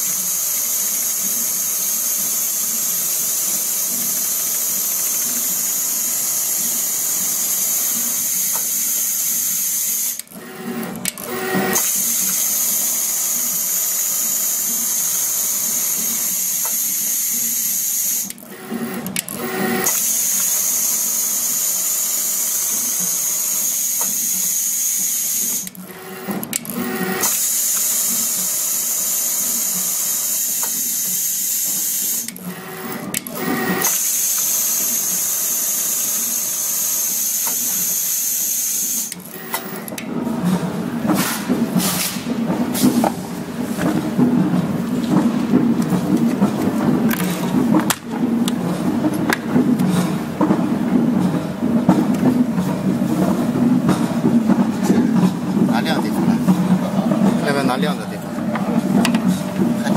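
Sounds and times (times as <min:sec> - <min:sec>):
sewing machine whirring: 0:00.0 - 0:59.9.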